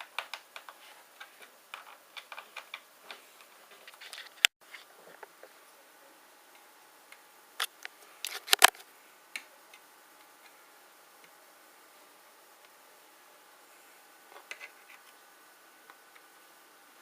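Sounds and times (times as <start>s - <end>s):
quiet hiss: 0.0s - 17.0s.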